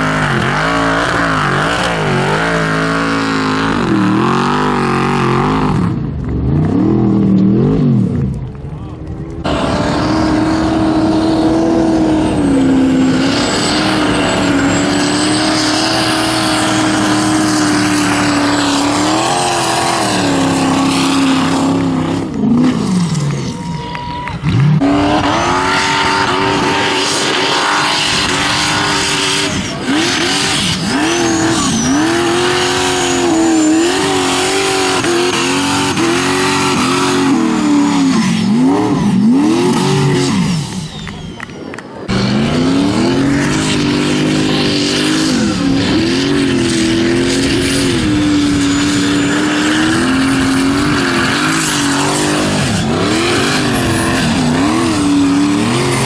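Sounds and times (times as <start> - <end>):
buggy engine revving: 0.0 - 56.0.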